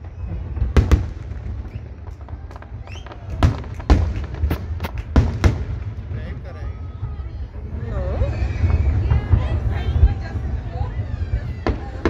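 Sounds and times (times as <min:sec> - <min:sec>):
fireworks bursting bangs: 0:00.0 - 0:12.0.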